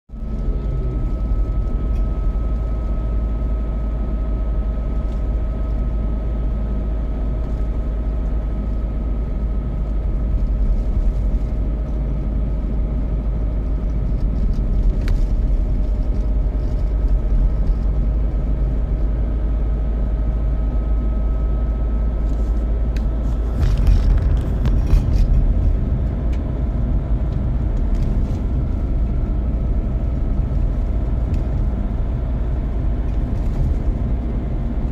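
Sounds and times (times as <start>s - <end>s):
old car engine running: 0.1s - 34.9s
road noise: 0.1s - 34.9s
steady whine: 0.1s - 34.9s.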